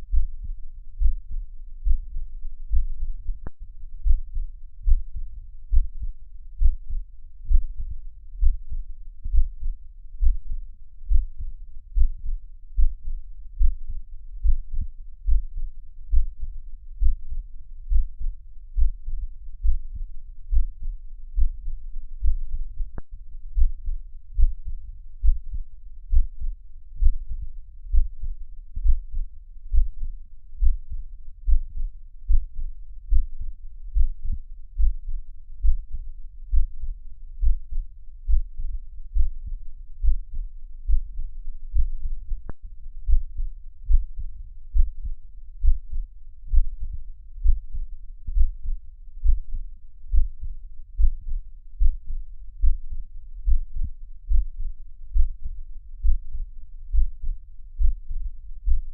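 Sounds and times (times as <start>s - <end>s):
heartbeat thumps: 0.0s - 58.9s.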